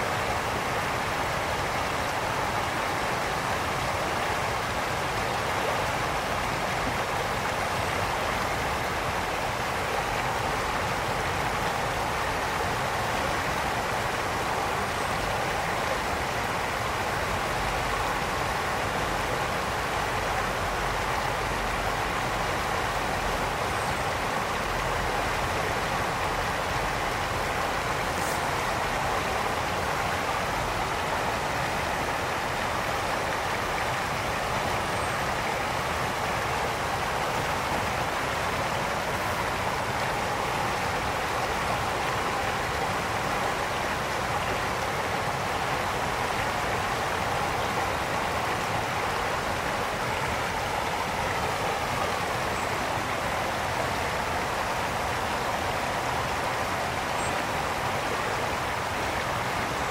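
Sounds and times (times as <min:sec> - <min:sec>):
brook water flowing: 0:00.0 - 0:59.9.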